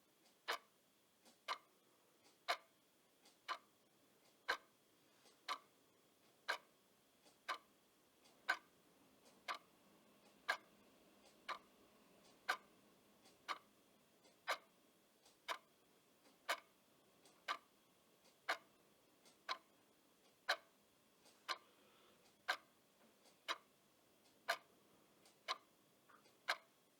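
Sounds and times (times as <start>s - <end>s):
clock ticking: 0.2s - 26.9s.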